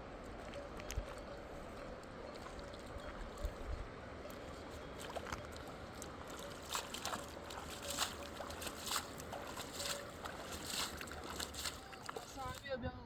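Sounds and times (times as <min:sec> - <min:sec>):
river water running: 0:00.0 - 0:12.8
water splashes and sloshes: 0:00.0 - 0:12.8.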